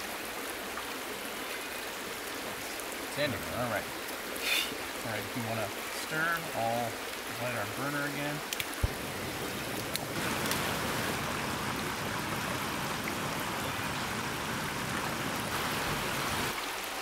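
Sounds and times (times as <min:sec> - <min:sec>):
creek rushing: 0:00.0 - 0:17.0.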